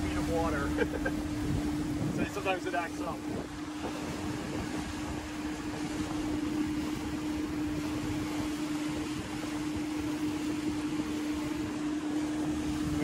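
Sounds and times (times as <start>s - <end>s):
outboard motor running: 0.0s - 13.0s
wind and water rushing: 0.0s - 13.0s.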